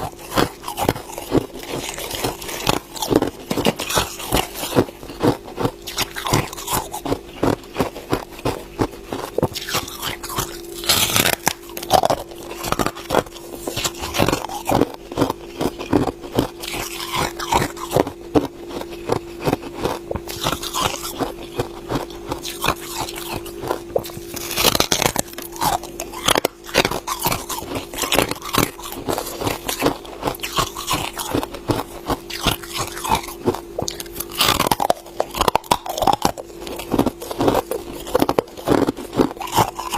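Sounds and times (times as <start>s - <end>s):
ice being chewed: 0.0s - 39.9s
steady low hum: 0.0s - 39.9s.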